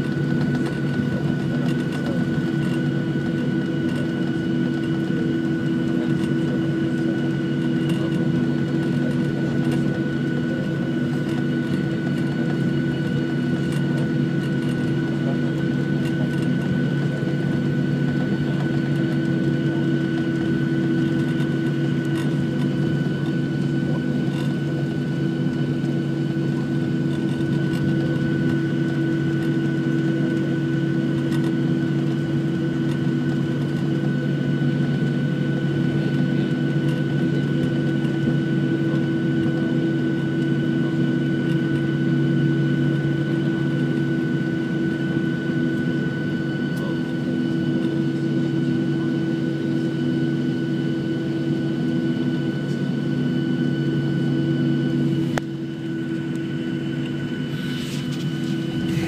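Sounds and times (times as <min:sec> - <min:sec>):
jet engines idling heard from cabin: 0:00.0 - 0:59.0.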